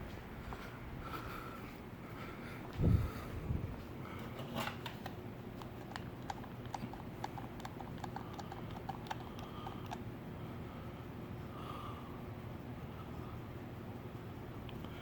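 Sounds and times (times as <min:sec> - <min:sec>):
ceiling fans humming: 0:00.0 - 0:15.0.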